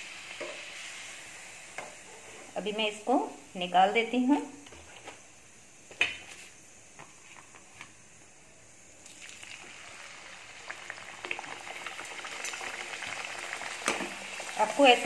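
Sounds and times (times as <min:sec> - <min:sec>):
dough deep-frying in hot oil: 0:00.0 - 0:04.7, 0:06.8 - 0:15.0.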